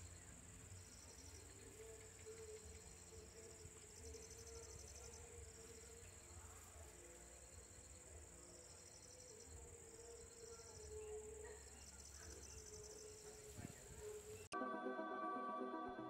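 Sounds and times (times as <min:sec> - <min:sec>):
crickets and insects droning: 0:00.0 - 0:14.5
rapid pulsed insect trills: 0:00.0 - 0:14.5.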